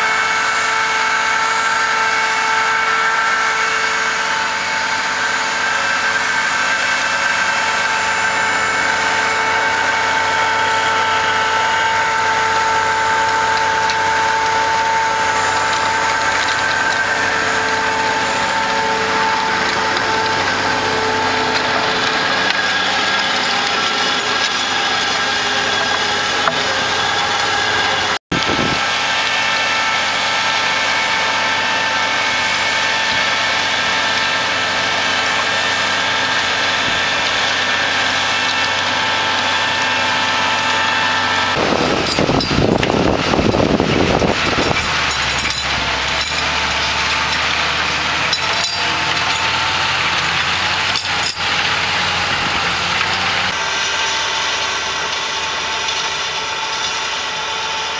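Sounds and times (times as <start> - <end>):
steady mechanical whine: 0.0 - 57.9
tractor engine under load: 0.0 - 57.9.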